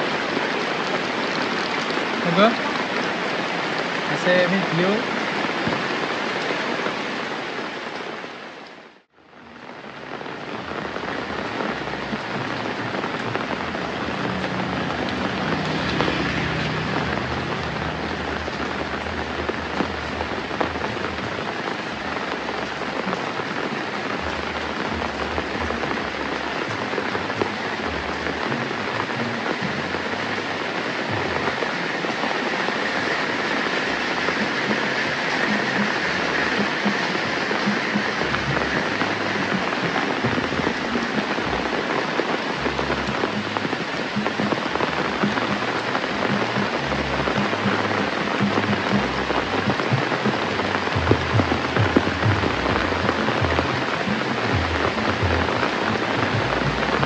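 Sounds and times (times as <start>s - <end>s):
rain falling and hissing: 0.0s - 57.0s.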